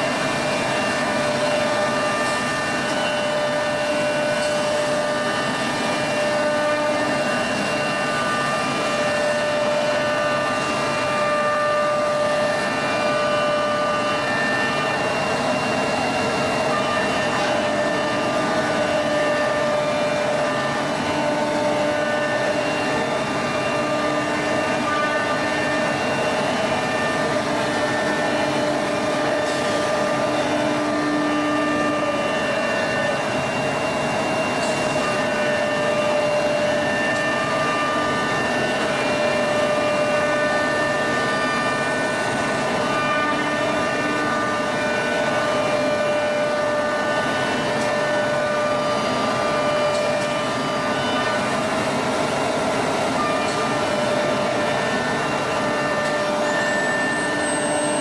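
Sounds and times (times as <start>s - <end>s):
machine running with whine: 0.0s - 58.0s.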